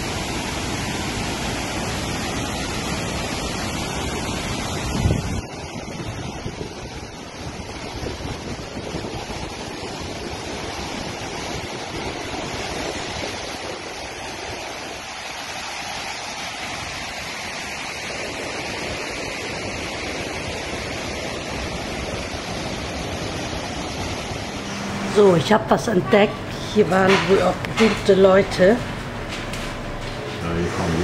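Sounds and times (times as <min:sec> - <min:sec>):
waterfall and river rapids rushing: 0:00.0 - 0:31.0.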